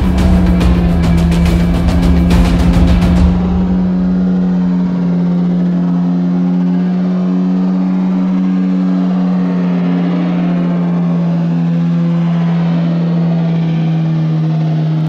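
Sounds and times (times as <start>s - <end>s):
jet ski engine humming: 0.0s - 15.0s.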